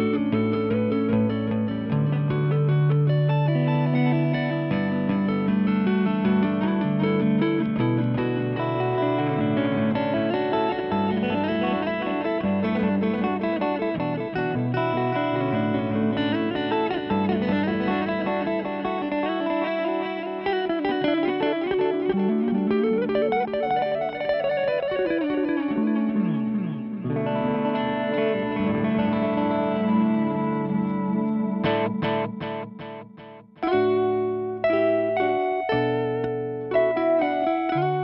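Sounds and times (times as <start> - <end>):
electric guitar riff with delay echoes: 0.0 - 38.0.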